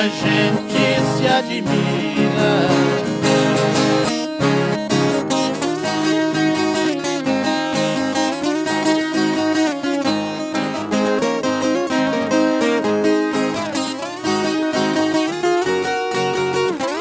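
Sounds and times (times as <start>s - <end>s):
plucked folk guitar: 0.0s - 17.0s.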